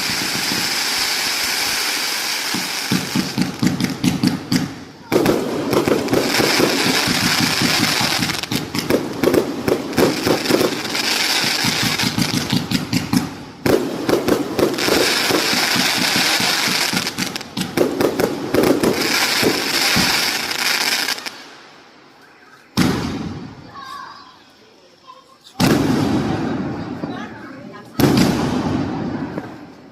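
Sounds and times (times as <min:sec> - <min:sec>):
firework barrage: 0:00.0 - 0:24.4, 0:25.4 - 0:29.9.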